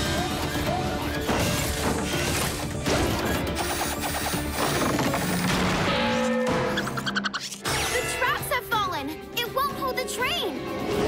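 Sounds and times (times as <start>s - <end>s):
dramatic action music: 0.0s - 11.0s.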